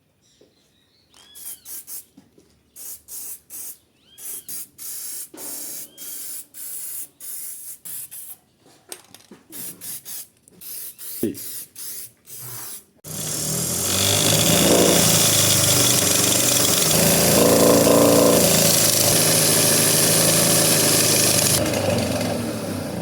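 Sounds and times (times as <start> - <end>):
spray paint hissing: 1.3 - 8.4, 9.5 - 21.6.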